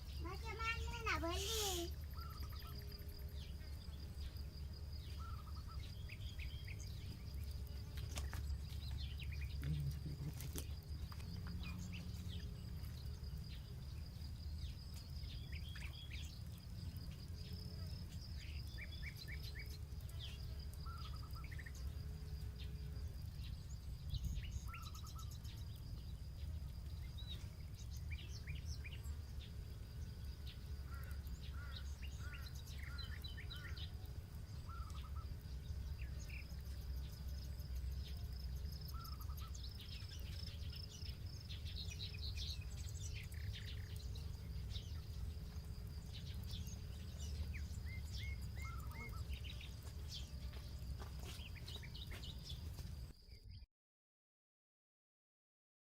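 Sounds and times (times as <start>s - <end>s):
constant low rumble: 0.0s - 53.2s
faint campfire crackle: 0.0s - 53.2s
high insect trill: 0.0s - 53.2s
birds chirping: 0.0s - 53.6s.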